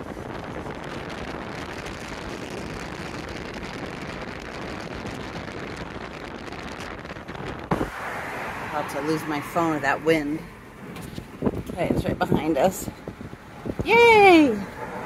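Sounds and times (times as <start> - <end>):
car road noise: 0.0 - 15.0
wind buffeting microphone: 0.0 - 15.0.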